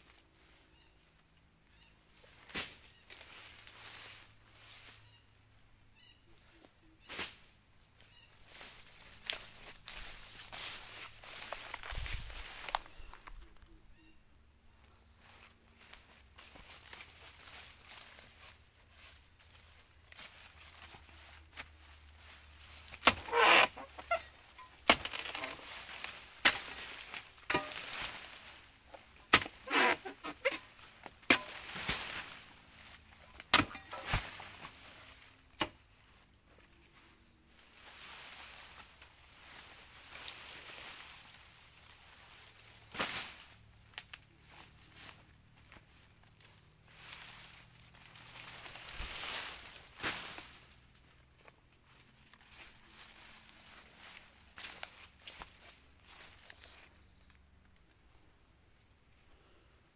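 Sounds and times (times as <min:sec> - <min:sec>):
rustles: 0:00.0 - 0:05.6, 0:06.3 - 0:59.2
high insect drone: 0:00.0 - 0:59.9.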